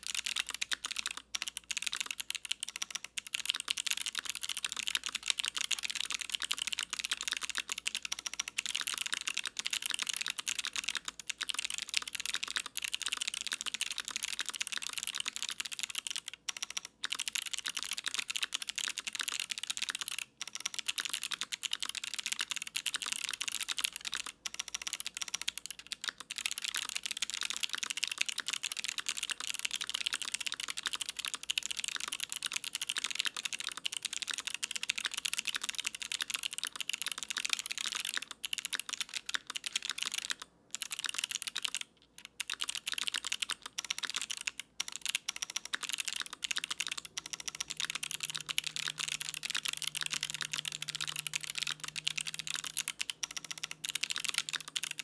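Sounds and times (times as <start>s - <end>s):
fast clicky keyboard typing: 0.0s - 55.0s.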